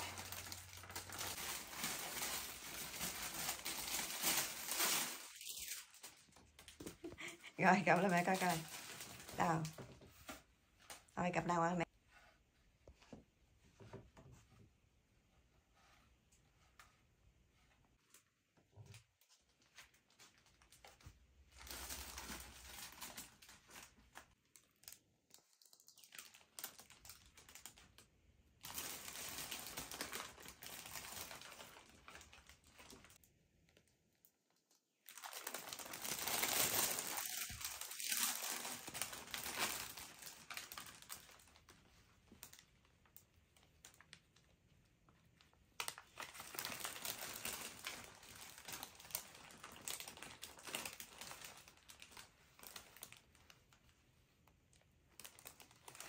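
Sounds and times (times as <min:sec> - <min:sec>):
gift packaging crinkling and rustling: 0:00.0 - 0:11.4, 0:17.9 - 0:33.7, 0:35.0 - 0:56.0.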